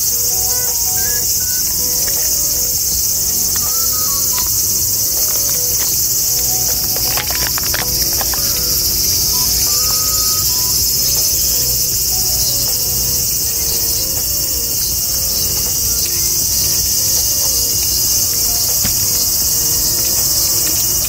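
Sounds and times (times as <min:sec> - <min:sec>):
high insect chorus: 0:00.0 - 0:21.0.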